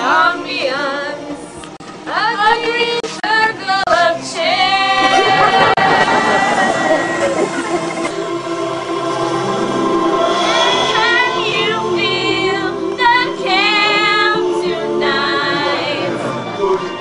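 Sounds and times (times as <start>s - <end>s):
accompanying music: 0.0s - 17.0s
women singing: 0.0s - 17.0s.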